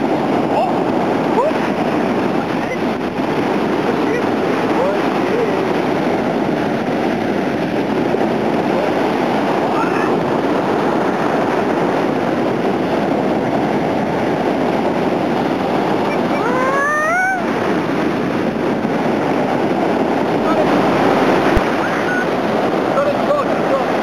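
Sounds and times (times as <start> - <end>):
waves breaking on sandy beach: 0.0 - 24.0.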